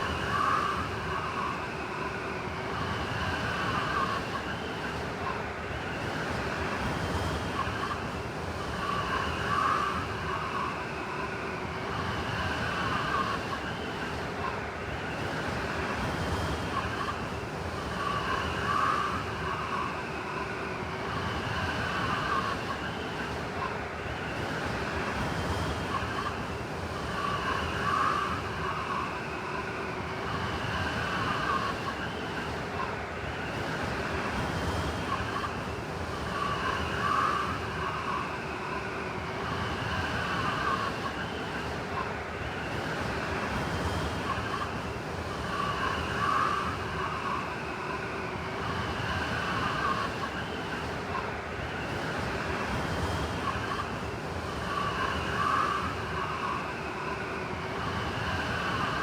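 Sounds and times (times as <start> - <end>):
blizzard wind whistling: 0.0 - 59.0.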